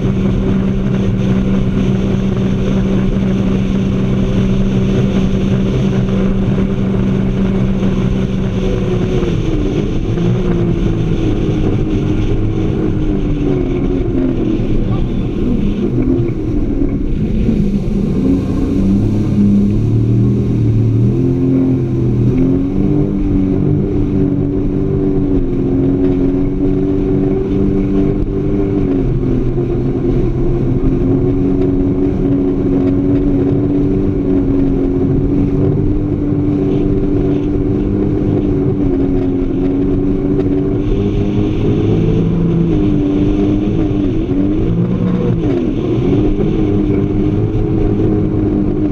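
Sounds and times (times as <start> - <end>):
jet ski engine running: 0.0 - 48.9.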